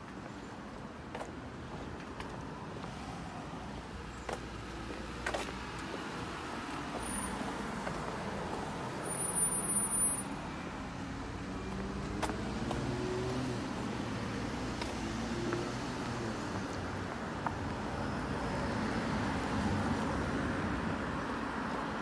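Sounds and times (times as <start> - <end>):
low hum of street noise: 0.0 - 22.0.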